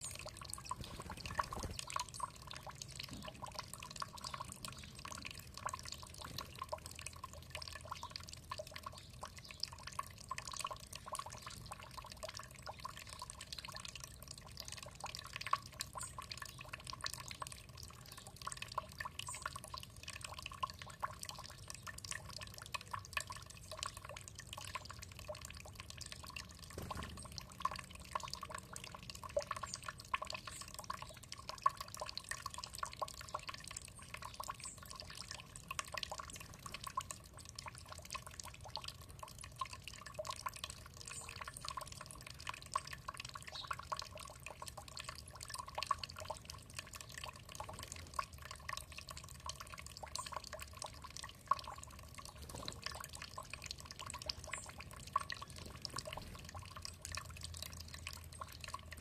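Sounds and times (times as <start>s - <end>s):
water dripping and splashing: 0.0s - 59.0s.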